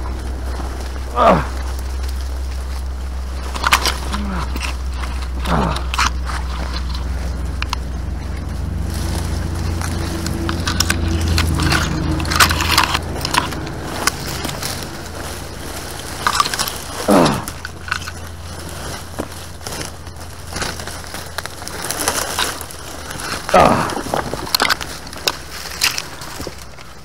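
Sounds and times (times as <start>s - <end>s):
low rumble: 0.0s - 27.0s
twigs and leaves crackling: 0.0s - 27.0s.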